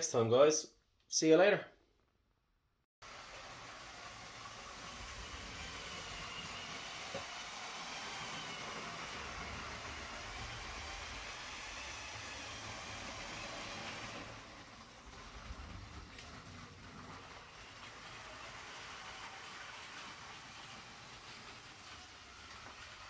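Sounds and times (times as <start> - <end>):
toy train motor whirring: 3.5 - 23.0.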